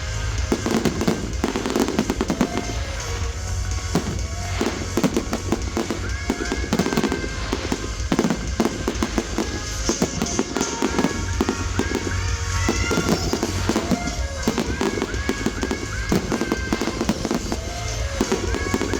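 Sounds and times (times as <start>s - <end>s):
fireworks bangs and crackling: 0.0s - 18.9s
low rumble: 0.0s - 18.9s
music playing: 0.0s - 18.9s.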